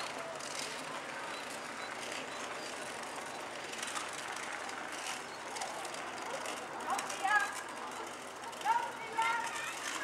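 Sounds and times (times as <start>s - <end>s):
street ambience: 0.0s - 10.0s.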